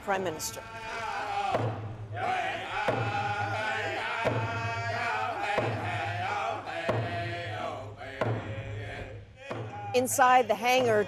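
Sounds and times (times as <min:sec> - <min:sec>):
men singing in unison: 0:00.6 - 0:11.0.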